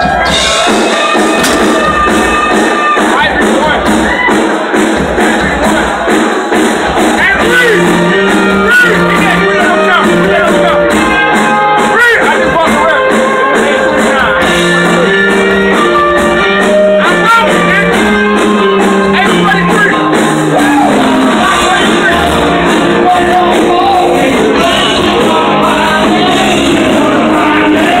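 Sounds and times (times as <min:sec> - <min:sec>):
loud music with singing voice: 0:00.0 - 0:28.0.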